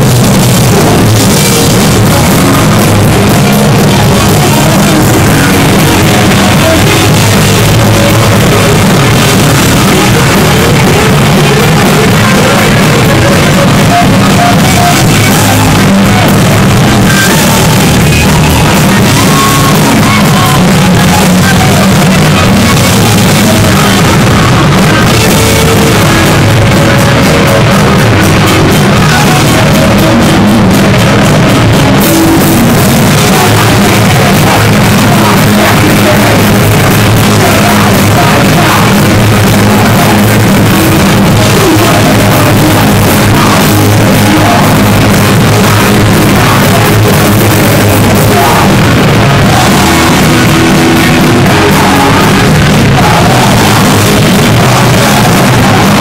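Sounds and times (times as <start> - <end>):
heavy metal band playing live: 0.0 - 56.0
shouted vocals: 0.0 - 56.0.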